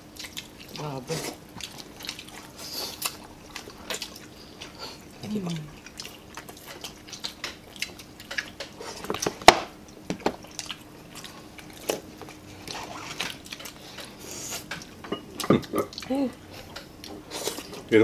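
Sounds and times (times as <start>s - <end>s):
people chewing and smacking: 0.0s - 18.0s.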